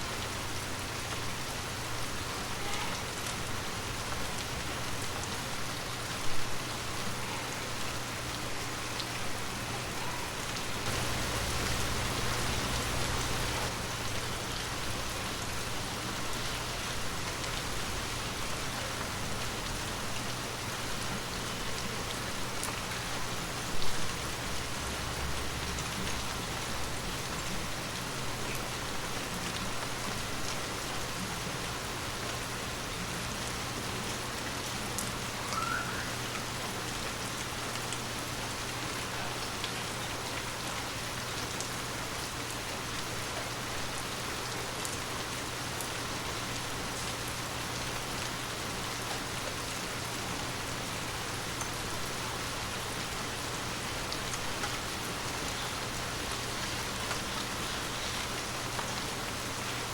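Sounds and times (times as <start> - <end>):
heavy rain spattering: 0.0 - 59.9.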